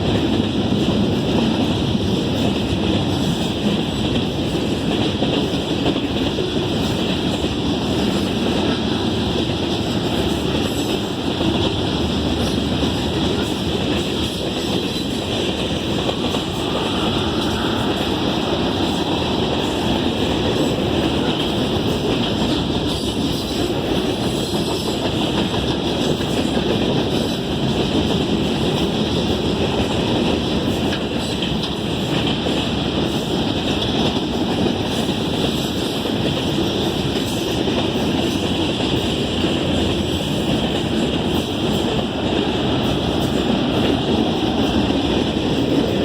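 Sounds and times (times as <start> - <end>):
freight train wheels rumbling: 0.0 - 46.0.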